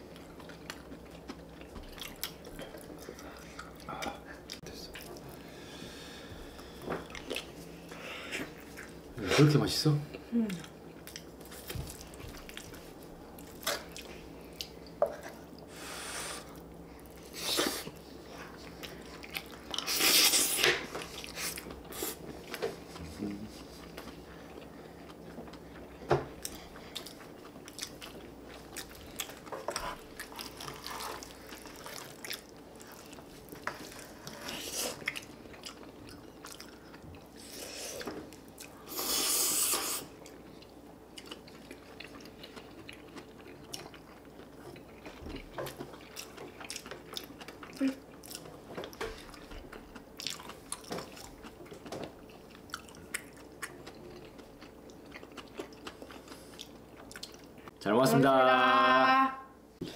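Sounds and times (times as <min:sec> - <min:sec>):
people chewing food: 0:00.0 - 0:57.8.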